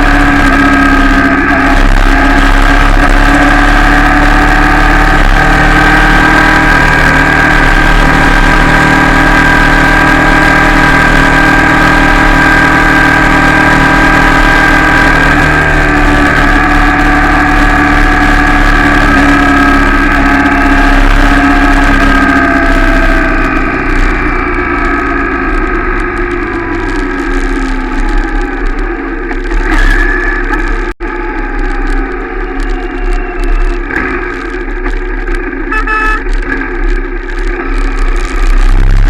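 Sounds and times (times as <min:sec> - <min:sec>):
motorcycle engine running steadily: 0:00.0 - 0:39.0.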